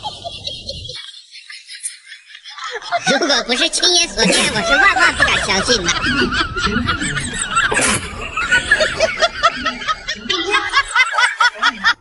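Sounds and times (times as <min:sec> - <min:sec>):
person snickering laugh: 0:00.0 - 0:03.0, 0:04.3 - 0:12.0.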